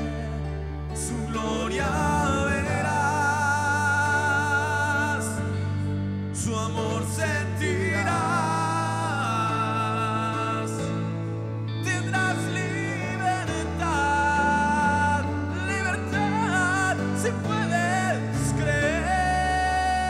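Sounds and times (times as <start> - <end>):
bass: 0.0 - 20.0
keyboard chords: 0.0 - 20.0
person singing with vibrato: 0.0 - 20.0.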